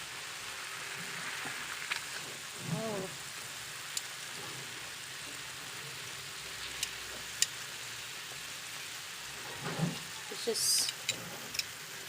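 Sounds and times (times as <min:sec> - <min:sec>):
squid sizzling in a pan: 0:00.0 - 0:12.0.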